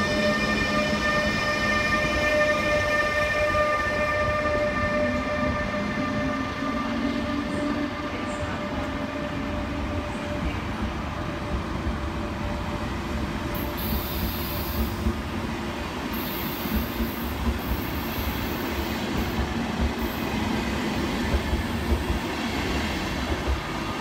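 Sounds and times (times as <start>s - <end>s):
train coaches rumbling past: 0.0s - 24.0s.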